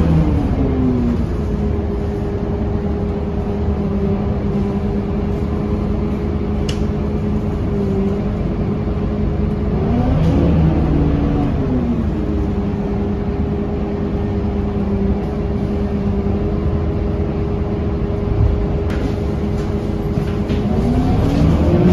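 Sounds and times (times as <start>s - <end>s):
bus diesel engine running: 0.0s - 21.9s.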